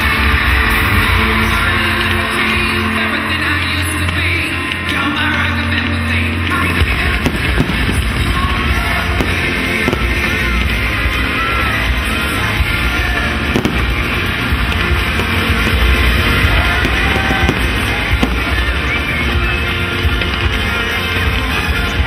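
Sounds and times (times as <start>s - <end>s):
fireworks crackling and popping: 0.0s - 22.0s
music playing: 0.0s - 22.0s.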